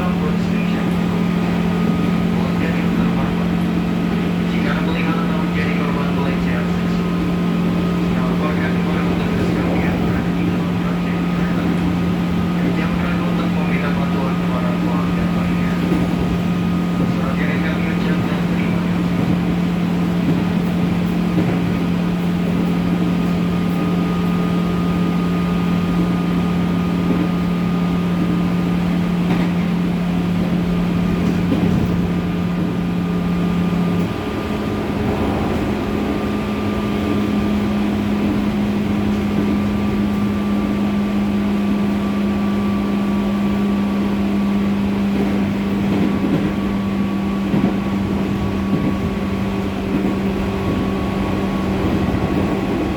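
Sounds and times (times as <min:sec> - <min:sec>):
train motor low hum: 0:00.0 - 0:52.9
train wheel and rail rumble: 0:00.0 - 0:52.9.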